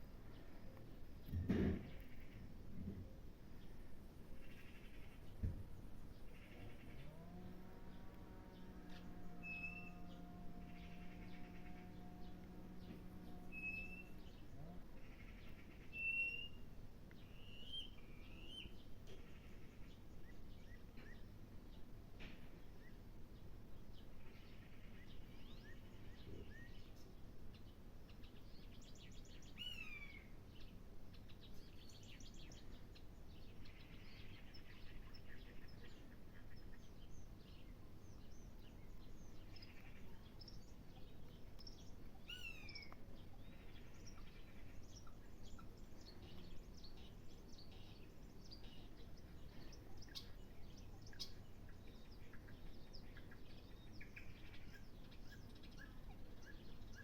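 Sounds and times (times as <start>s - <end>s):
birds chirping: 0.2s - 21.8s, 23.9s - 57.0s.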